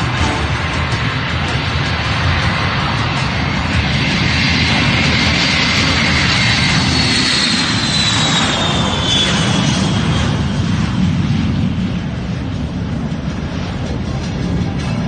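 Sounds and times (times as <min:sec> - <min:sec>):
high jet whine: 0:00.0 - 0:15.0
jet aircraft flyby rumble: 0:00.0 - 0:15.0.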